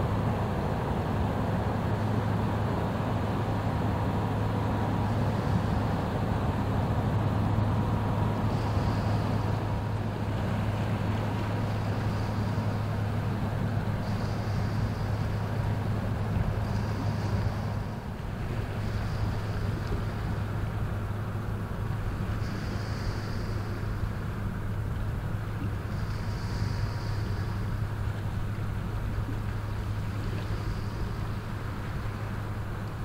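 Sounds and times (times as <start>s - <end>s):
boat diesel engine drone: 0.0s - 33.0s.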